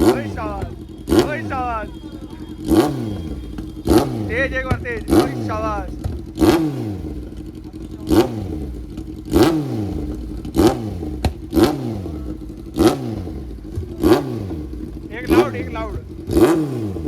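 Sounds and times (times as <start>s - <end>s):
exhaust crack: 0.0s - 17.0s
motorcycle engine revving: 0.0s - 17.0s.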